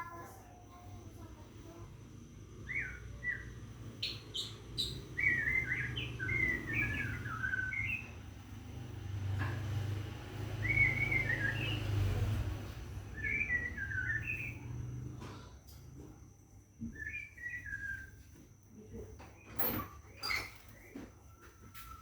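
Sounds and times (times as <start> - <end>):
bird singing warbled chirps: 0.0 - 15.3, 16.8 - 22.0.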